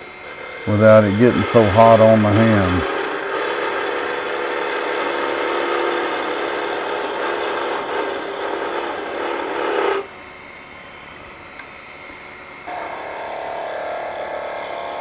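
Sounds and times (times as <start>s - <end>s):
lathe tool cutting wood: 0.0s - 10.2s, 12.6s - 15.0s
lathe motor humming: 0.0s - 15.0s.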